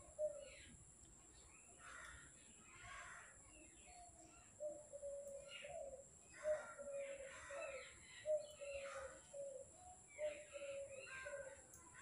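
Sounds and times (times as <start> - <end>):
harsh bird calls: 1.5 - 12.0.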